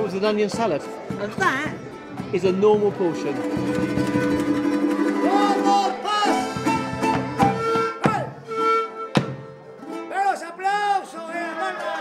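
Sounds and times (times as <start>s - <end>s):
folk music with sliding melody: 0.0s - 10.4s.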